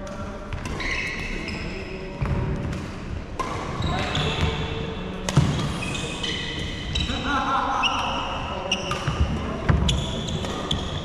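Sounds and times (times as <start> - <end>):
voices in hall: 0.0 - 11.0.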